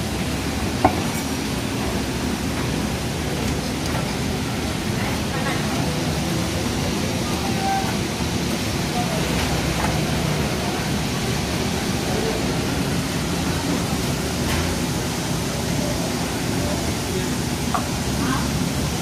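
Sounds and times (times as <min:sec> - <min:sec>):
background chatter: 0:00.0 - 0:19.0.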